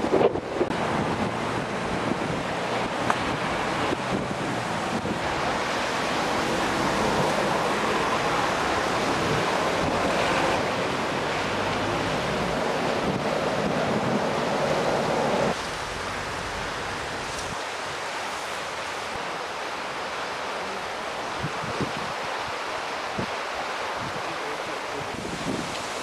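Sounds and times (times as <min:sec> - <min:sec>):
wind rushing on microphone: 0:00.0 - 0:26.0.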